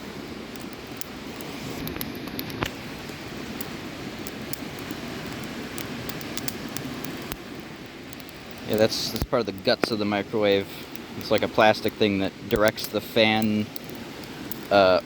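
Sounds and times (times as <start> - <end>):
fire crackling and popping: 0.0 - 15.0
rushing hiss: 1.1 - 15.0.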